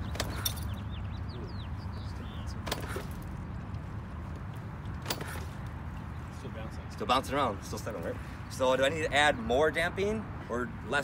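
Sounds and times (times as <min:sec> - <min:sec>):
low rumble of distant traffic: 0:00.0 - 0:11.0.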